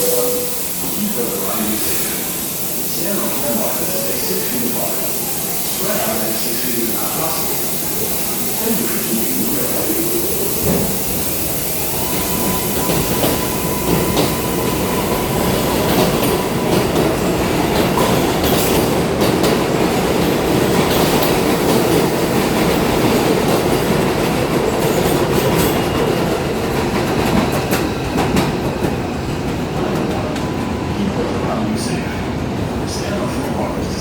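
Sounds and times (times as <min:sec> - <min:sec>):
train wheels clacking over rail joints: 0:00.0 - 0:30.6
train rumble: 0:00.0 - 0:34.0.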